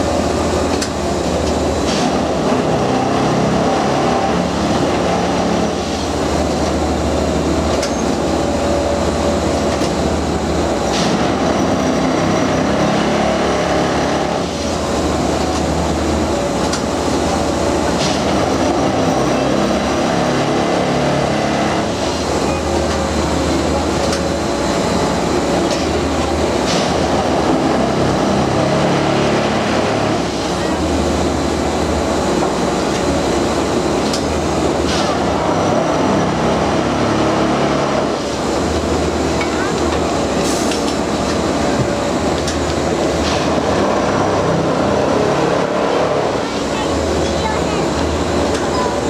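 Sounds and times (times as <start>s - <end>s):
machinery noise with low throb: 0.0s - 49.0s.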